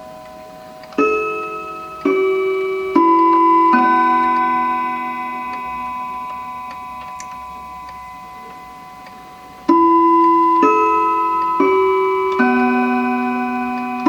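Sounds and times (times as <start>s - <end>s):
clock chiming: 0.0s - 14.0s
clock ticking: 0.0s - 14.0s.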